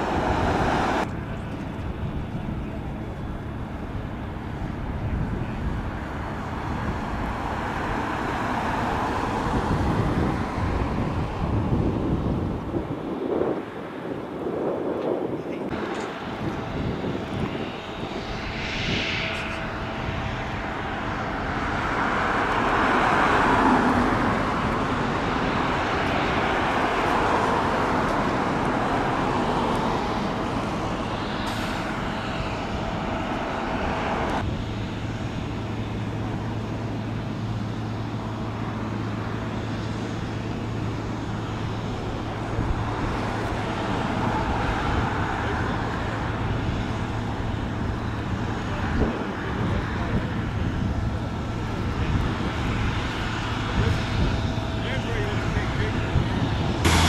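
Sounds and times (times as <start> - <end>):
cars passing on road: 0.0 - 57.0
low engine hum: 0.0 - 57.0.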